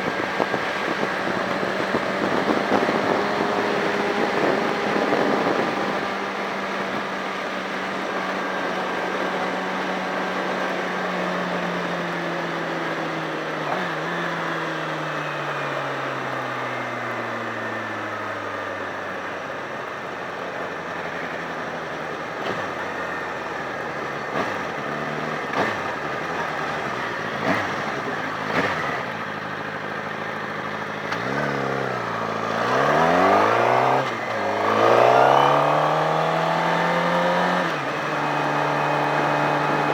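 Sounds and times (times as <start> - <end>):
motorcycle engine revving: 0.0 - 18.4, 19.8 - 39.9
wind and road noise: 0.0 - 39.9.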